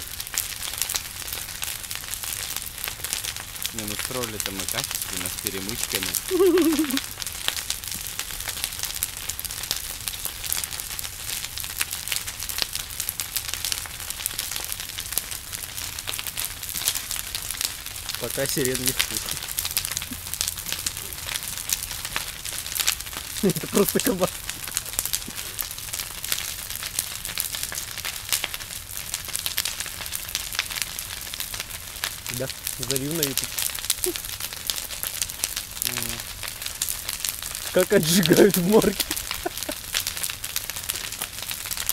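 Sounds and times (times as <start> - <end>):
bonfire crackling and popping: 0.0 - 41.9
flame hiss: 0.0 - 41.9.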